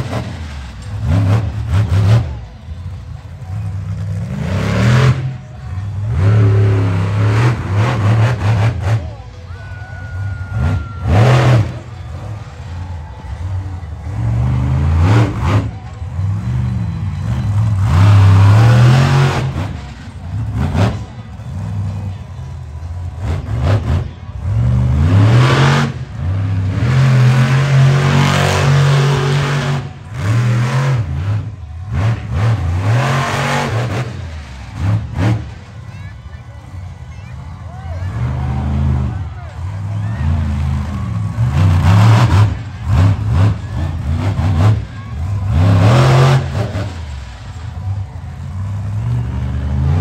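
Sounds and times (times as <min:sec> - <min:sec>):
trucks crashing onto cars: 0:00.0 - 0:36.8, 0:37.4 - 0:50.0
monster truck engines revving: 0:00.0 - 0:50.0.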